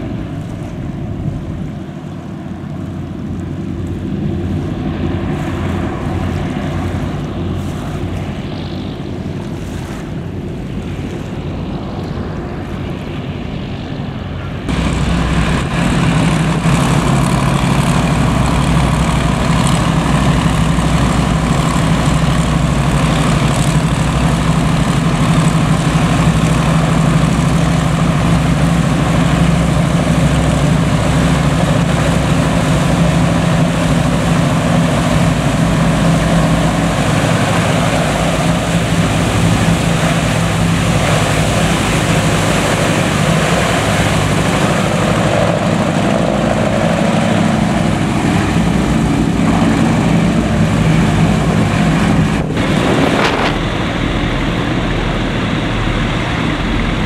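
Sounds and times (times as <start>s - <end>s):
hovercraft engines droning: 0.0s - 57.0s.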